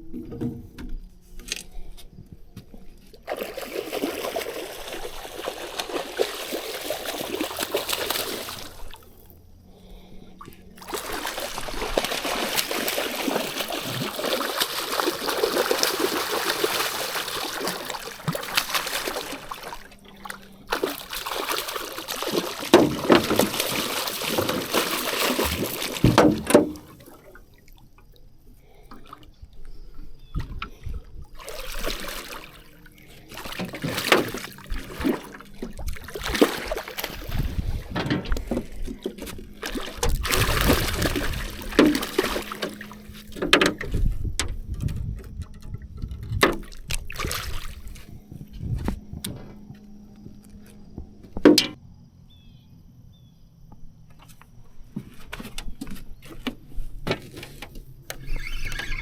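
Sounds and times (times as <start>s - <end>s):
river water trickling and splashing: 2.7s - 51.8s.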